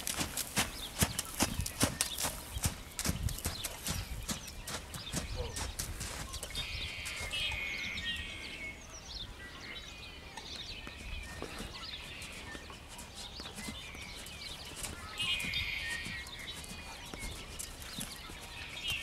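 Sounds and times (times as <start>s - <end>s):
muffled horse footfalls on sand: 0.0s - 7.5s, 10.8s - 19.0s
birds chirping: 0.0s - 19.0s.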